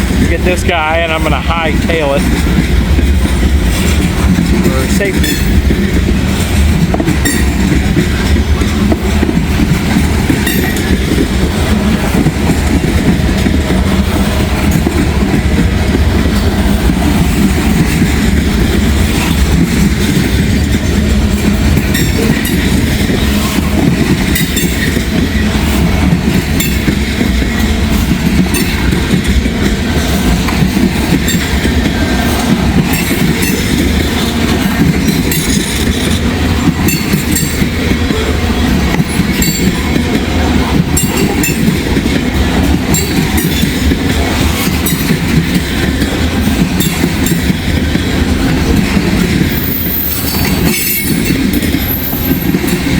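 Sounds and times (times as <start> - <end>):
train wheels rumbling on rails: 0.0 - 52.9
wheels clicking over rail joints: 2.2 - 52.9.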